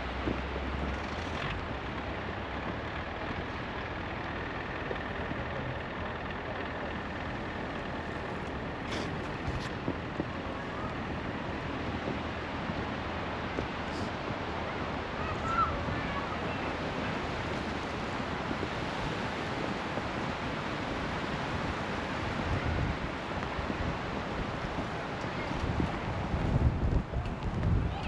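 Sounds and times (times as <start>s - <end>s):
vehicle engine low rumble: 0.0s - 28.0s.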